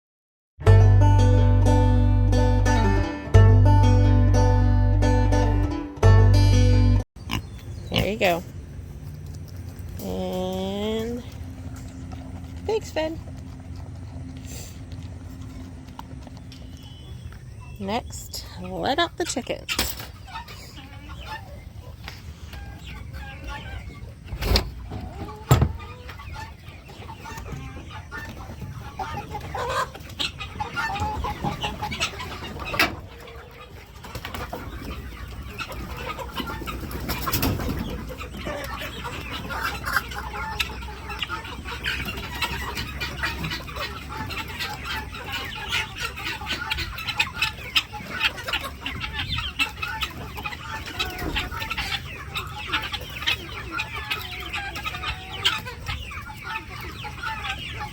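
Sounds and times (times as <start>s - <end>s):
chickens clucking: 1.2s - 57.9s.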